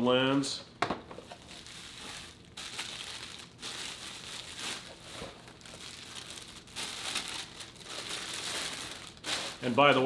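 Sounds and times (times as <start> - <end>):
bubble wrap crinkling: 1.2 - 10.0.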